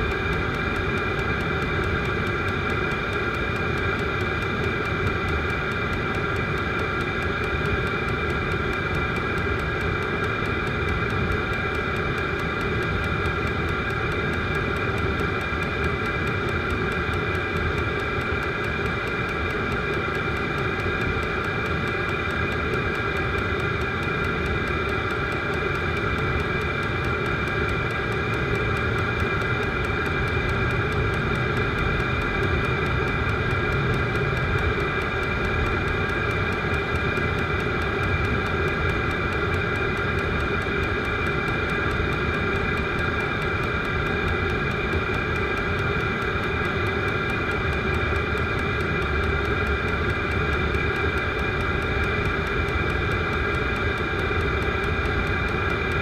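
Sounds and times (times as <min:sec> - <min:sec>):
air heater blower fan whine: 0:00.0 - 0:56.0.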